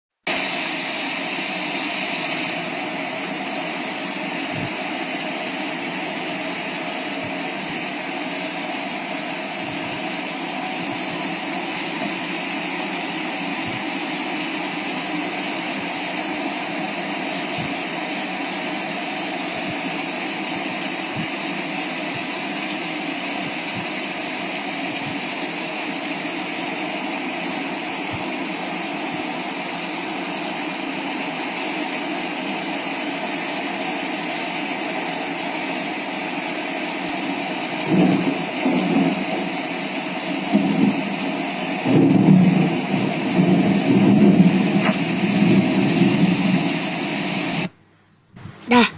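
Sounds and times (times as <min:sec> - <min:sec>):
heavy rainfall: 0:00.3 - 0:47.7.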